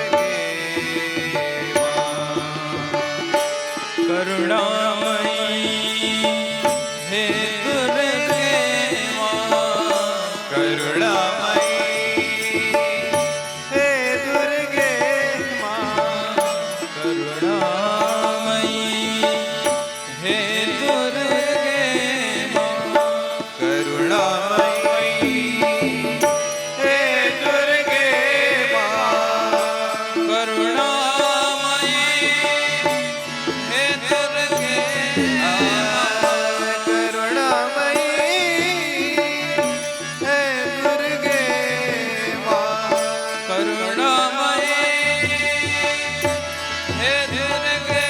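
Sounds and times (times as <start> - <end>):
tabla: 0.0 - 48.0.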